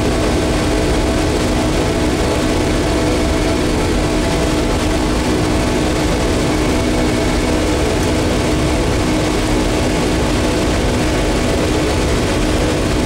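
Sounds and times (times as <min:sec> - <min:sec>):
aircraft engines droning: 0:00.0 - 0:13.0.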